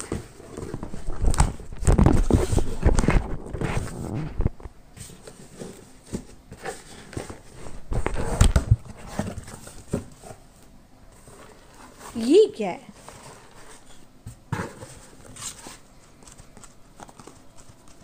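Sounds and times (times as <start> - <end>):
cardboard rustling and scraping: 0.0 - 18.0.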